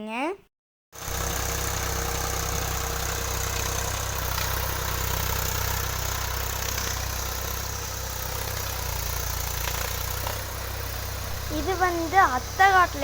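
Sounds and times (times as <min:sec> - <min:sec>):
tractor engine running: 0:01.0 - 0:13.0.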